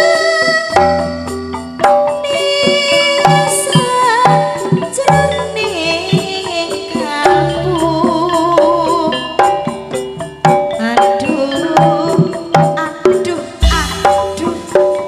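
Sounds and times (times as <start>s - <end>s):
metallophones and gongs ringing: 0.0s - 15.0s
wavering melody line: 0.0s - 15.0s.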